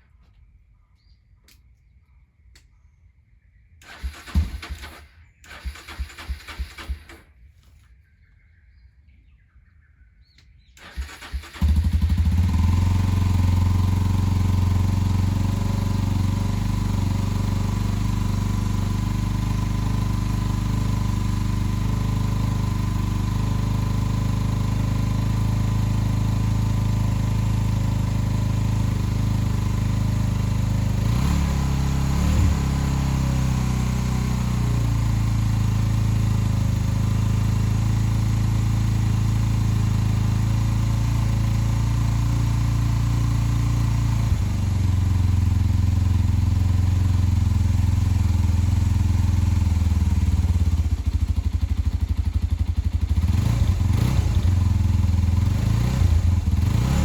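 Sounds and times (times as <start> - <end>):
engine starting and idling: 3.8 - 7.4, 10.6 - 57.0.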